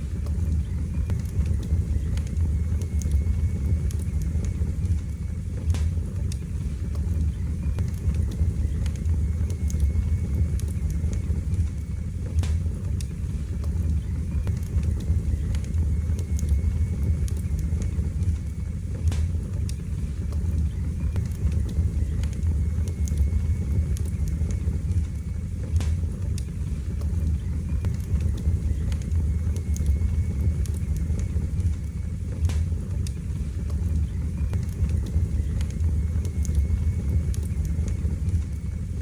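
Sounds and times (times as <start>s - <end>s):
fire crackling and popping: 0.0s - 39.0s
fire flames rumbling: 0.0s - 39.0s.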